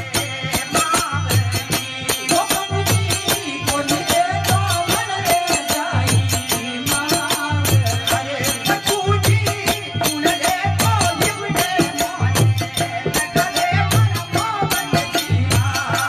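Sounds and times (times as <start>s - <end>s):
fast clicking percussion: 0.0s - 16.0s
harmonium: 0.0s - 16.0s
man singing: 0.0s - 16.0s.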